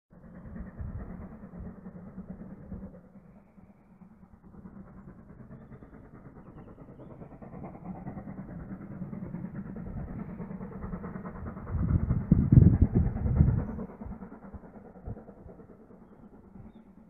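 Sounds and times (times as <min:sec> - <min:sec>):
distant steam locomotive exhaust beats: 0:00.1 - 0:17.0.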